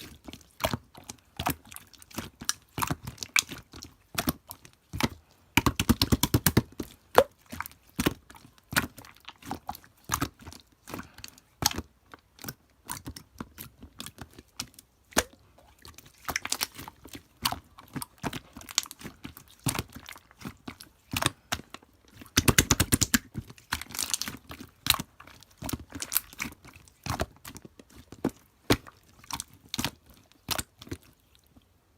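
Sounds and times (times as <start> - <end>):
slime crackling rapidly: 0.0 - 31.4
slime clicking and popping: 0.6 - 31.1.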